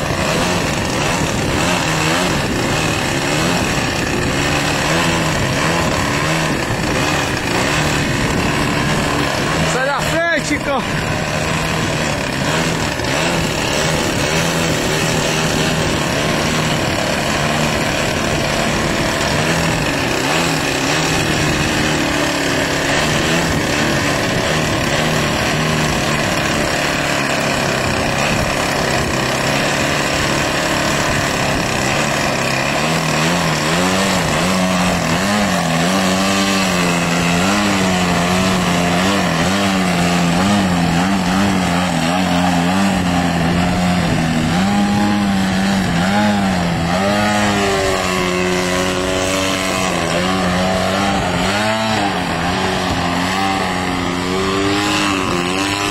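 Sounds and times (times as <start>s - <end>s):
model plane engine running: 0.0s - 55.9s.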